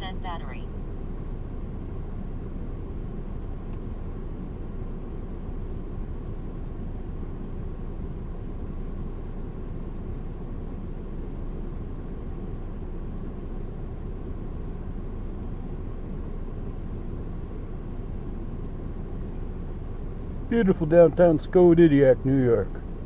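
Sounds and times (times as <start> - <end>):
car interior rumble and hiss: 0.0 - 23.0
faint high whine: 0.0 - 23.0.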